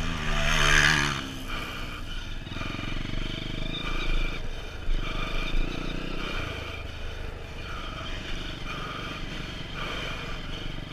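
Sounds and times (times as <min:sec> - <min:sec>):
motocross bike engine at low throttle: 0:00.0 - 0:10.9.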